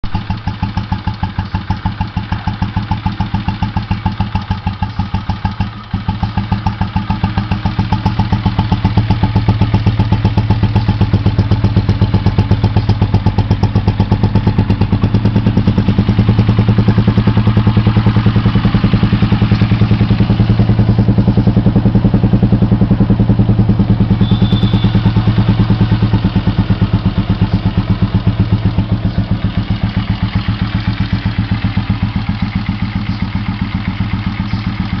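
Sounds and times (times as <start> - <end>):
motorcycle engine idling: 0.0 - 35.0.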